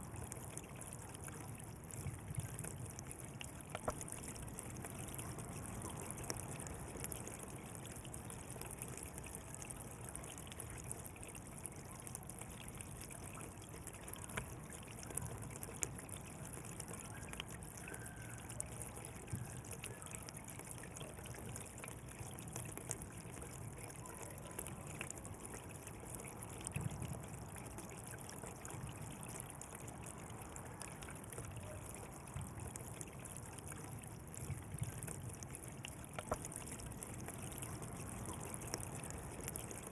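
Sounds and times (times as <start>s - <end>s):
small water splashes: 0.0s - 39.9s
water trickling and babbling: 0.0s - 39.9s.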